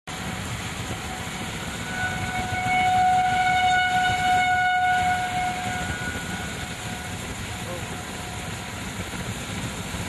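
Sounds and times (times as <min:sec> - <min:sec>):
low rumbling noise: 0:00.1 - 0:10.0.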